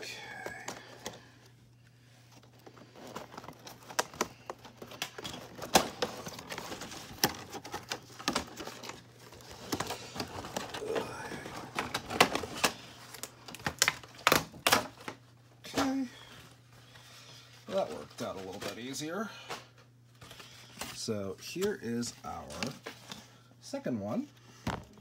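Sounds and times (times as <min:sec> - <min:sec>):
plastic packaging crinkling and snapping: 0:00.2 - 0:23.5.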